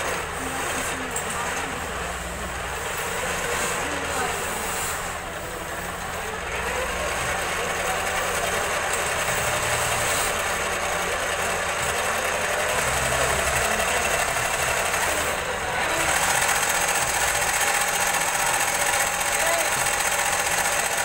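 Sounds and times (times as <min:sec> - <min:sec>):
tape cutting machine running: 0:00.0 - 0:21.0.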